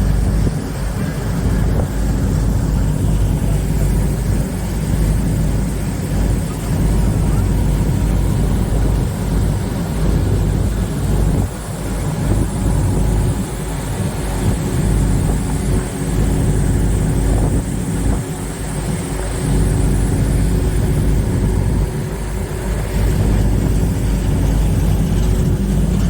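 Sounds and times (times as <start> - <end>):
boat engines droning: 0.0 - 26.0.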